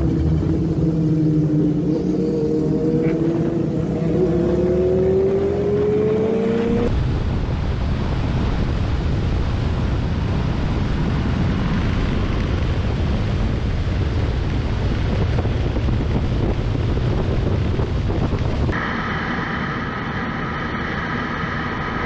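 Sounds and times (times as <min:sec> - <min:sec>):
wind rushing on microphone: 0:00.0 - 0:22.0.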